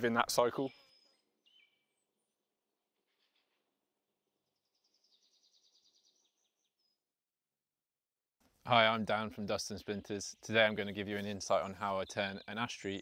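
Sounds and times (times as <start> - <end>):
faint birdsong: 0.0 - 7.2, 8.4 - 13.0.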